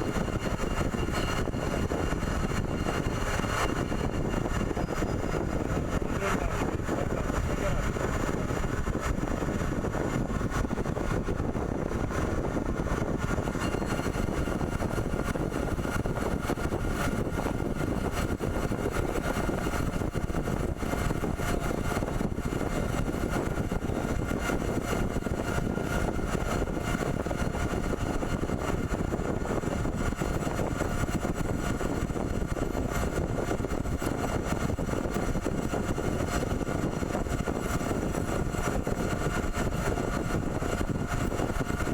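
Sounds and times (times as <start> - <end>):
pipe threading machine running: 0.0 - 41.9.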